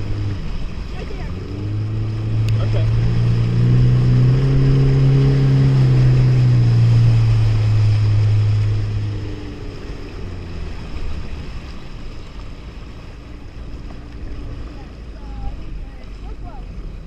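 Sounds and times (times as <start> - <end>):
jet ski engine droning: 0.0 - 17.0
water wash: 0.0 - 17.0
wind: 0.0 - 17.0.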